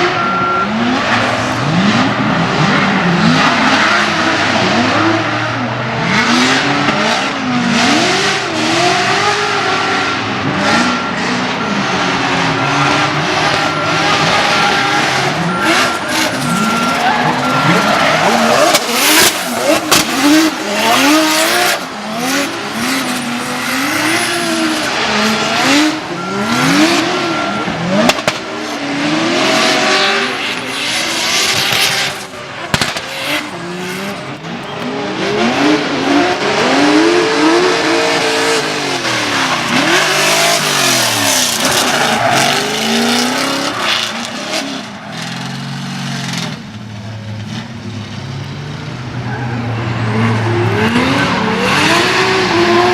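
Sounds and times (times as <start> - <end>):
car engines revving: 0.0 - 52.9
tires squealing: 0.0 - 52.9.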